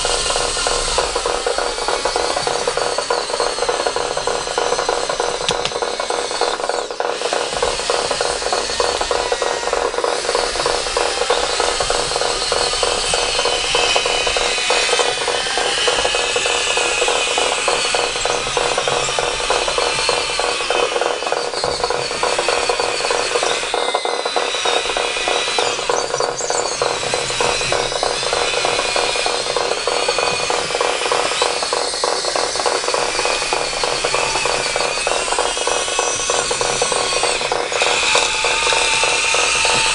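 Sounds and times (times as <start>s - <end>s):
motor hum: 0.0s - 39.9s
toy machine tracks rattling: 0.0s - 39.9s
wavering motor whine: 0.0s - 39.9s.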